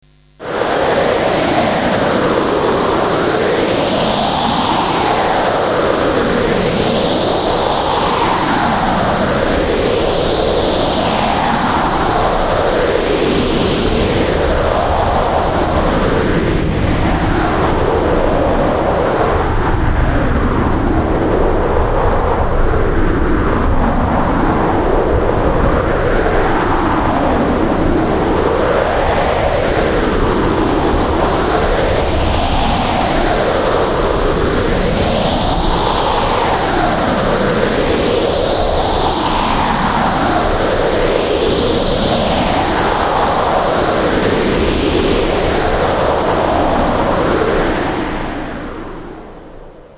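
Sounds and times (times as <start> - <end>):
wind howling: 0.4 - 49.9.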